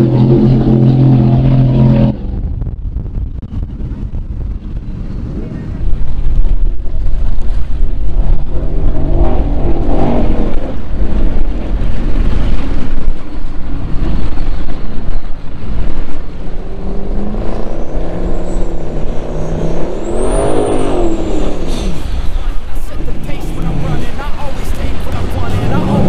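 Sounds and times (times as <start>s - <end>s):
powerboat engines running hard: 0.0s - 26.0s
wind rumble on microphone: 0.0s - 26.0s.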